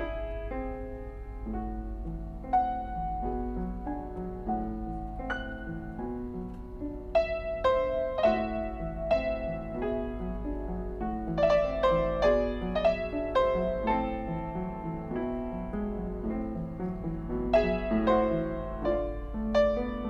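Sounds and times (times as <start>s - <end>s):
piano piece: 0.0s - 20.0s.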